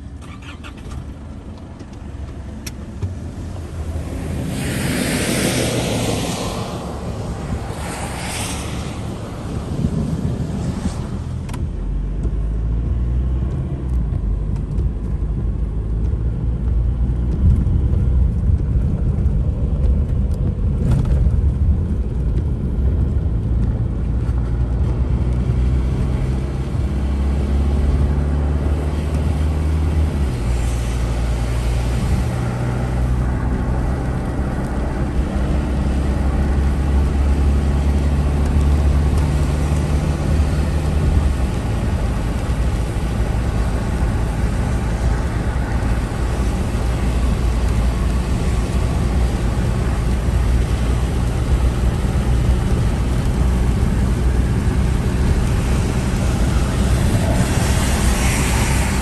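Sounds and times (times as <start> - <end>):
car engine driving: 0.0 - 59.0
road noise: 0.0 - 59.0.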